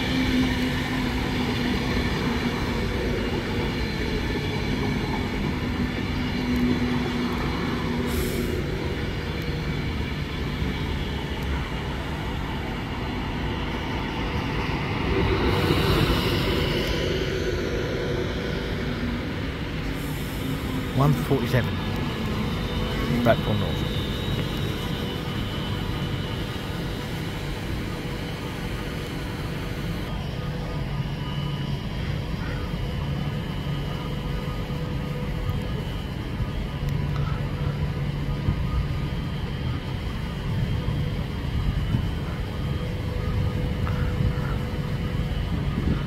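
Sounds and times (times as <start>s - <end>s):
faint whining tones: 0.0s - 46.0s
train engine humming: 0.0s - 46.0s.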